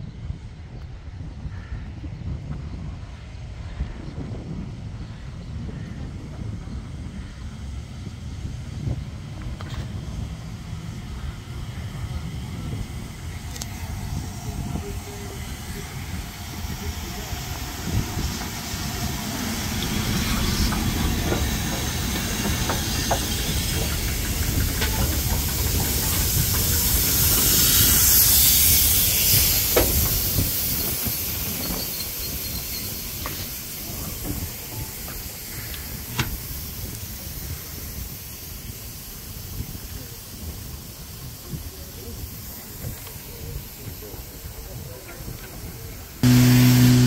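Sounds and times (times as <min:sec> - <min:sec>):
train wheels rumbling on rails: 0:00.1 - 0:47.0
hissing steam: 0:04.7 - 0:47.0.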